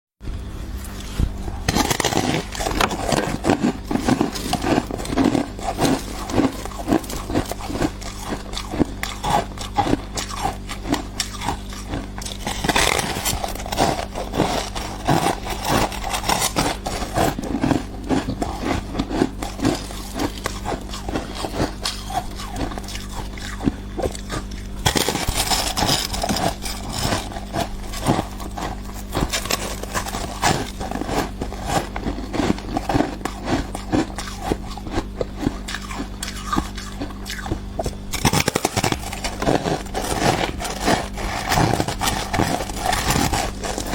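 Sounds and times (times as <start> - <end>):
ice being bitten and chewed: 0.9 - 43.9.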